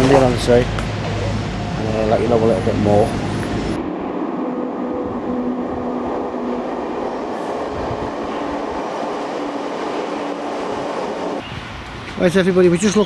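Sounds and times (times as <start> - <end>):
passenger train rumbling: 0.0 - 13.0.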